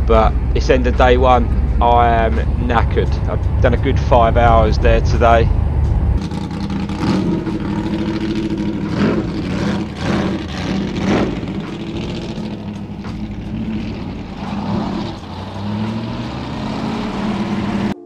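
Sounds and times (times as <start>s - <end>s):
van engine running: 0.0s - 18.0s.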